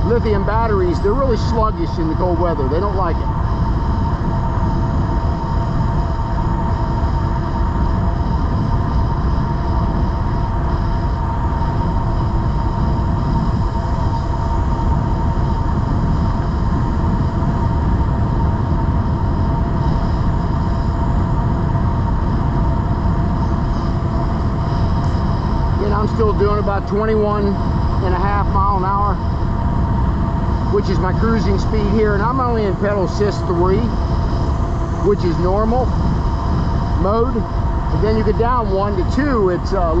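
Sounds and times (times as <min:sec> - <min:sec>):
electric motor whine: 0:00.0 - 0:40.0
wind rushing on microphone: 0:00.0 - 0:40.0.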